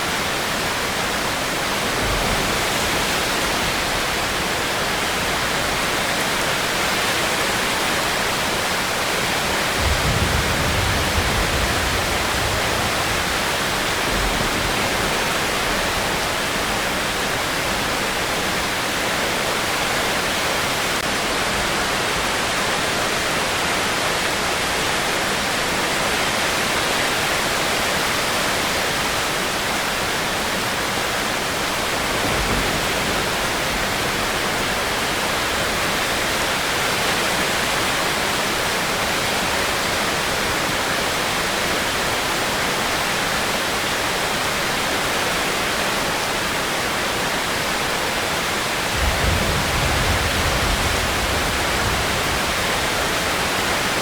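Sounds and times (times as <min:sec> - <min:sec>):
heavy rain hissing: 0:00.0 - 0:22.1, 0:26.8 - 0:54.0.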